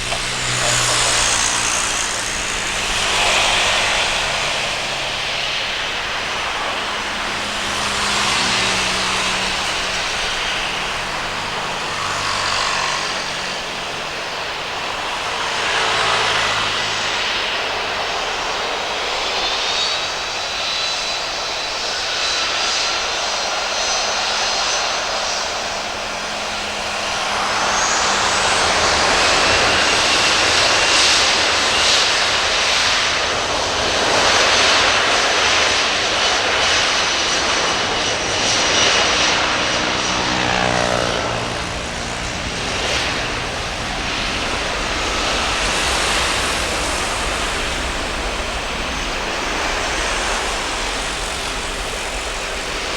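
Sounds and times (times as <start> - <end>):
jet engines whining and roaring: 0.0 - 52.9.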